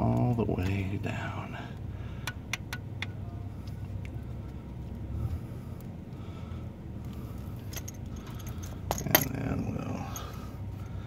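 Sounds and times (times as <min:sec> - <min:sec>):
low rumble: 0:00.8 - 0:11.0.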